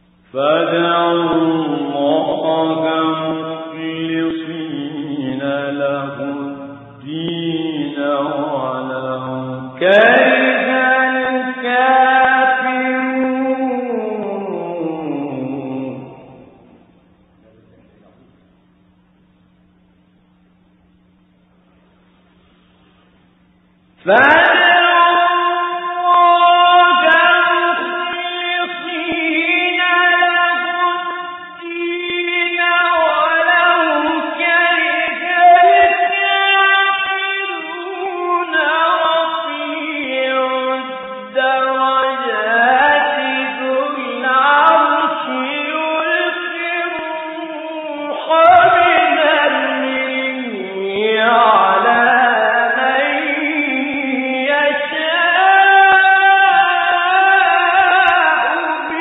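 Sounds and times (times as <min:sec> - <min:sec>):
man chanting melodically: 0:00.4 - 0:18.4, 0:24.0 - 0:59.0.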